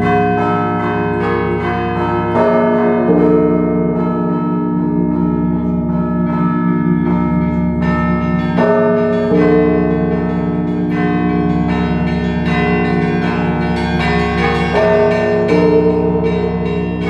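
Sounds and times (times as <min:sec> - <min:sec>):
church bells ringing together: 0:00.0 - 0:17.0
deep bass bell: 0:00.0 - 0:17.0.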